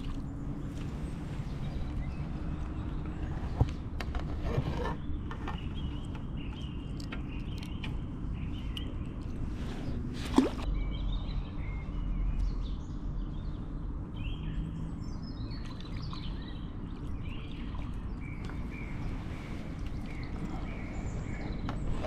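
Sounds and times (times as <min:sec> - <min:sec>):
birds chirping: 0:00.0 - 0:22.0
low outdoor rumble: 0:00.0 - 0:22.0.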